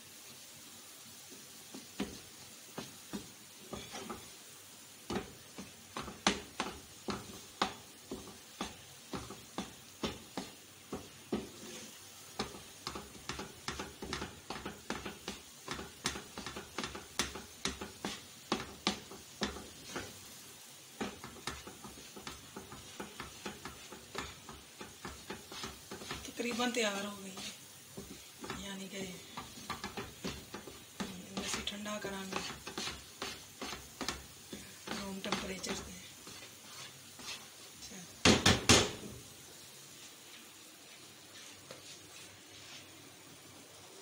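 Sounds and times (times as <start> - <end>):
steady sizzle: 0.0 - 44.0
wooden spatula scraping a pan: 1.3 - 38.3, 40.8 - 43.3.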